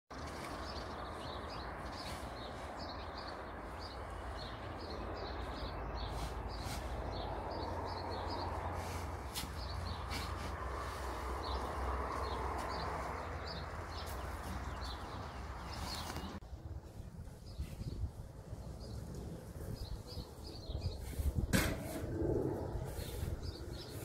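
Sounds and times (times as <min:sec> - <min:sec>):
small birds chirping: 0:00.1 - 0:21.5, 0:22.7 - 0:24.0.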